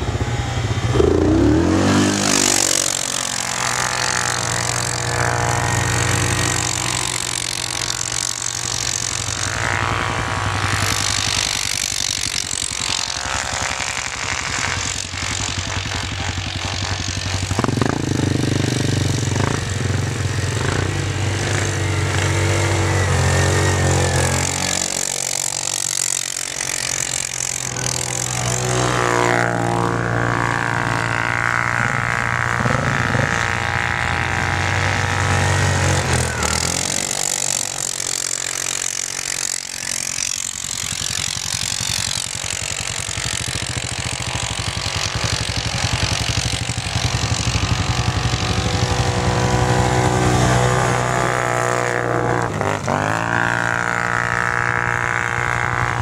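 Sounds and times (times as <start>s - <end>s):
atv engines revving: 0.0s - 56.0s.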